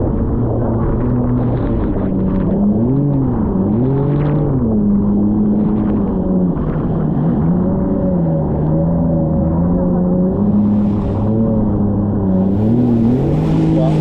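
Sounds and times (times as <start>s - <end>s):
jet ski engine running: 0.0s - 14.0s
steady rushing noise: 0.0s - 14.0s.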